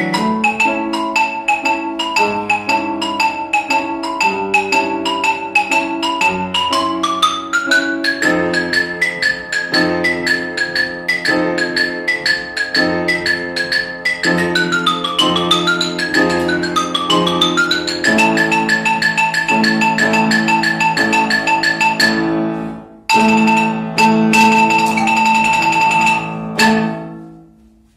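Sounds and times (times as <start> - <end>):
marimba played fast: 0.0 - 22.5, 23.1 - 27.2
piano accompaniment: 0.0 - 27.9.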